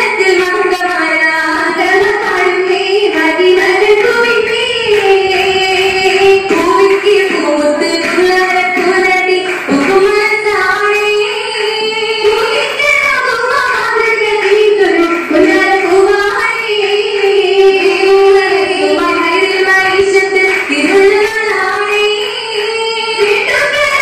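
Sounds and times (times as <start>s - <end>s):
girls singing in unison: 0.0s - 24.0s.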